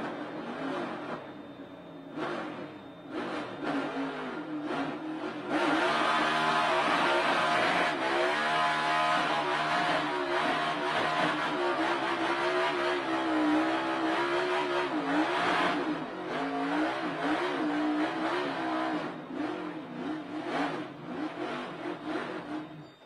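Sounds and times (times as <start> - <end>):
race car engine at speed: 0.0 - 23.0.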